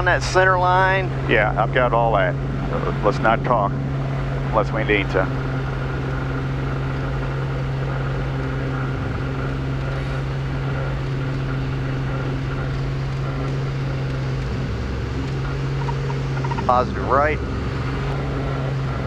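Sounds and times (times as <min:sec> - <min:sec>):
airplane engine and propeller drone: 0:00.0 - 0:19.0.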